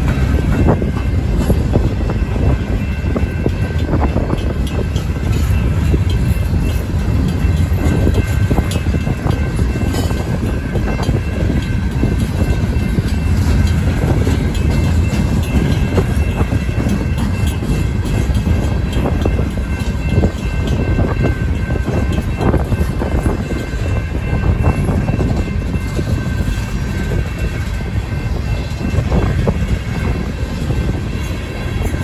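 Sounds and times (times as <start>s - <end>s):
train wheels rumbling on rail: 0.0s - 32.0s
wheels clicking over rail joints: 0.0s - 32.0s.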